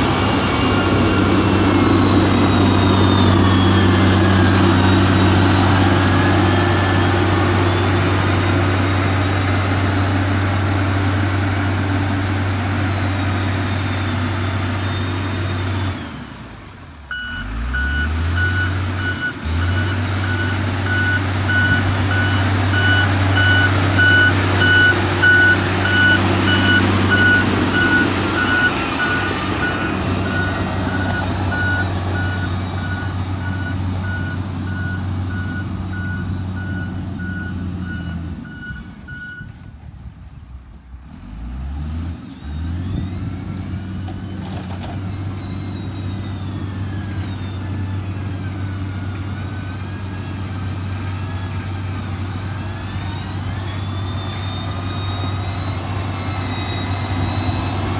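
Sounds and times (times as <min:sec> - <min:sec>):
reversing alarm beeping: 0:00.0 - 0:16.2, 0:17.1 - 0:39.5, 0:43.2 - 0:57.9
whine rising and falling: 0:00.0 - 0:16.2, 0:18.0 - 0:38.0, 0:45.0 - 0:57.9
diesel engine running: 0:00.0 - 0:57.9.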